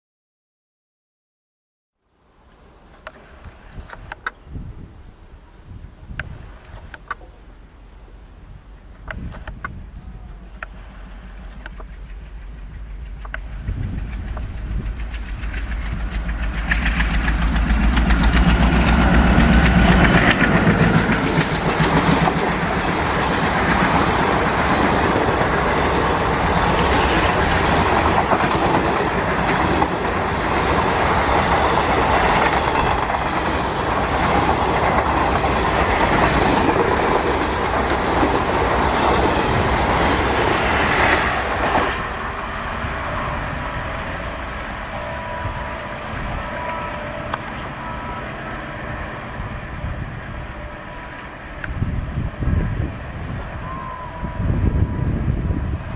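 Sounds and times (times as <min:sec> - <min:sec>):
diesel locomotive engine: 0:02.1 - 0:55.9
train wagons clattering over rails: 0:08.8 - 0:55.9.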